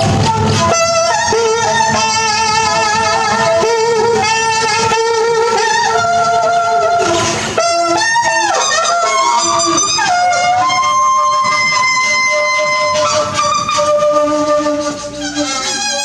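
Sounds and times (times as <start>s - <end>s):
electronic and wind instrument music: 0.0s - 16.0s.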